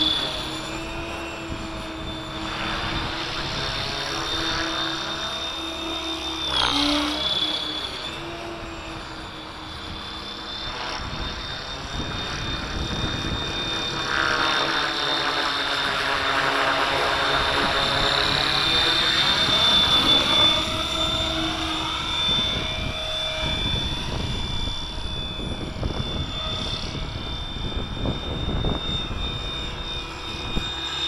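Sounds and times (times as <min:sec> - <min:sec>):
model helicopter whine: 0:00.0 - 0:31.0.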